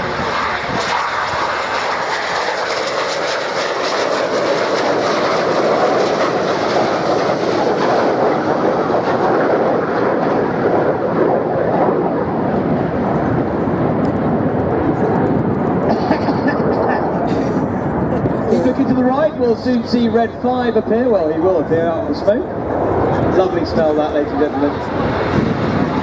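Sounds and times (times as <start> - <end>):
jets flying past roaring: 0.0 - 26.0.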